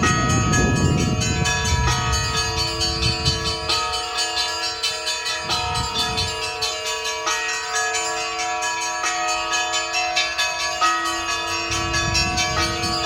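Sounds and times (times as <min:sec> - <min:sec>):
small bells struck quickly: 0:00.0 - 0:13.0.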